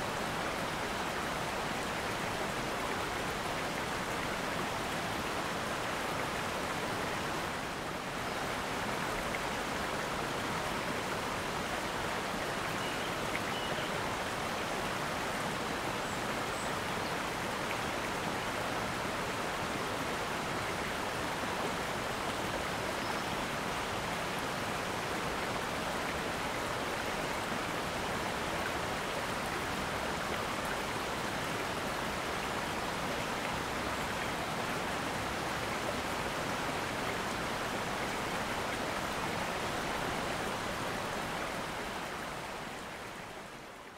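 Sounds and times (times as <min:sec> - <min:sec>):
river flowing over stones: 0:00.0 - 0:43.9.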